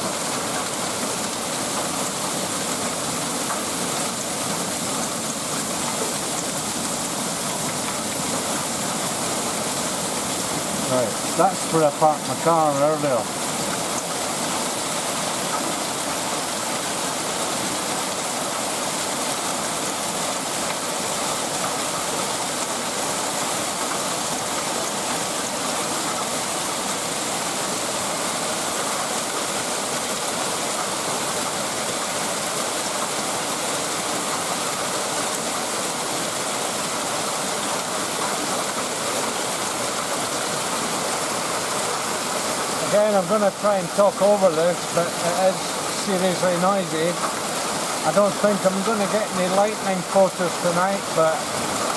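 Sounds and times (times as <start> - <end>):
torrential rain: 0.0 - 51.9.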